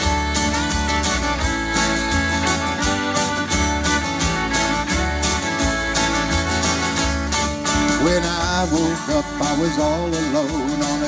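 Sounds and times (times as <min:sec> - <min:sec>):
acoustic guitar strumming: 0:00.0 - 0:11.0
fiddle melody: 0:00.0 - 0:11.0.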